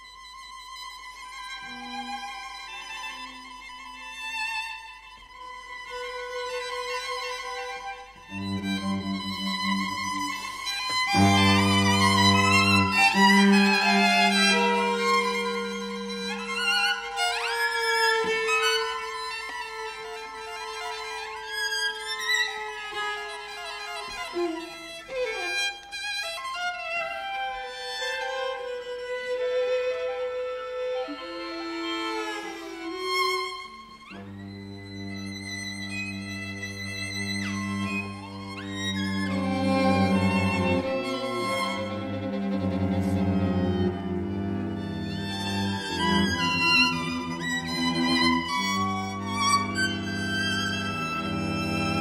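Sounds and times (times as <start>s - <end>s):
string quartet holding notes: 0.0s - 52.0s.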